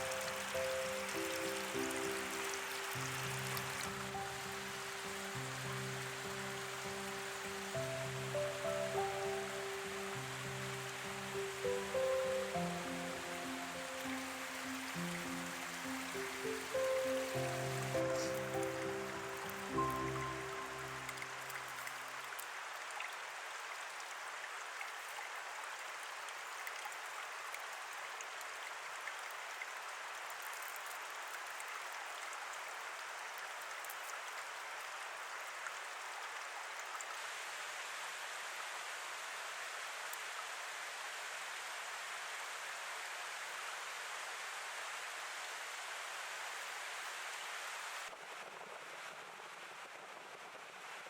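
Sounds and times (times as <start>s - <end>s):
flowing water rushing: 0.0s - 51.0s.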